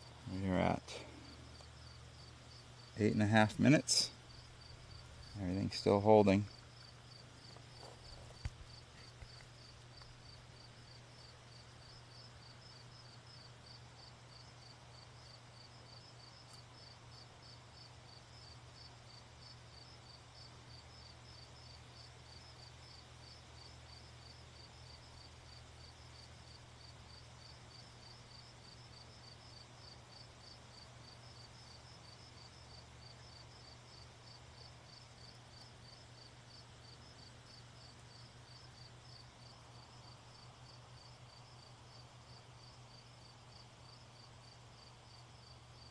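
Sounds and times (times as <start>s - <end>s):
insect chirping: 0.0s - 45.9s
low steady hum: 0.0s - 45.9s.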